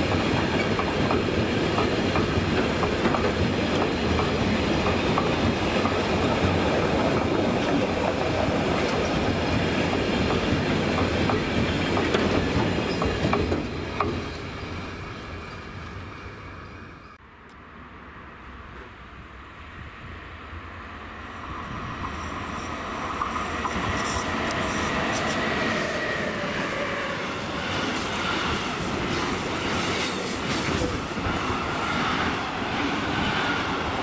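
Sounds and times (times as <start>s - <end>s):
train wheels rumbling on rails: 0.0s - 17.2s, 21.4s - 34.0s.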